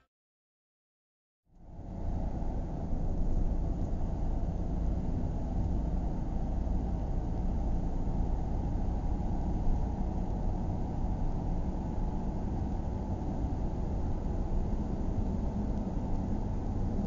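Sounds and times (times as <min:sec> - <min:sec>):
car engine and tyre noise: 0:01.6 - 0:17.0.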